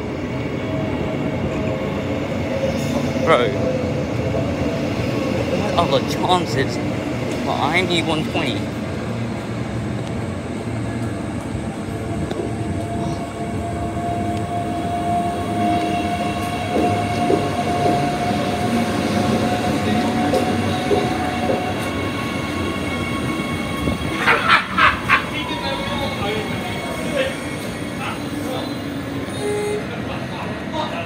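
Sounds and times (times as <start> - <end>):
electric train hum: 0.0 - 31.0.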